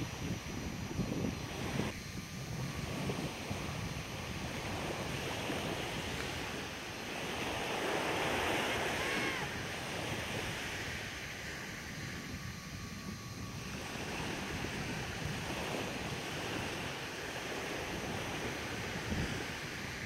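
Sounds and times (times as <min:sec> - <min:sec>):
small waves lapping on beach: 0:00.0 - 0:20.0.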